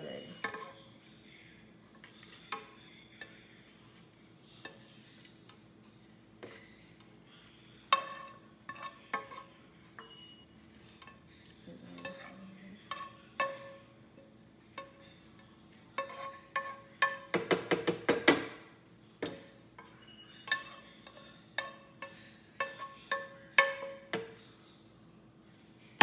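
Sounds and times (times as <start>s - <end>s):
spatula scraping a frying pan: 0.2s - 17.4s, 19.3s - 24.2s.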